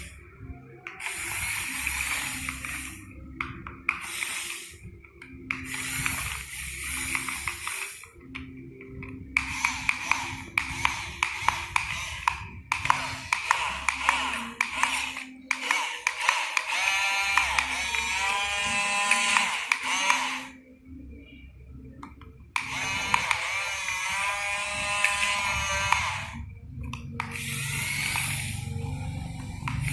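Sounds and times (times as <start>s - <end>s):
model excavator motor hum: 0.0s - 0.2s, 0.8s - 20.6s, 22.6s - 29.9s.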